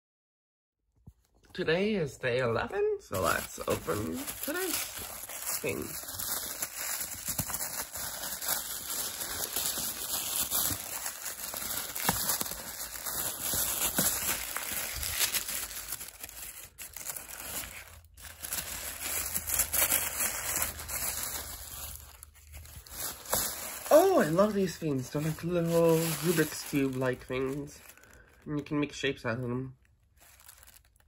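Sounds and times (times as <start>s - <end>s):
packaging crinkling and rustling: 3.1s - 28.8s, 29.8s - 31.0s.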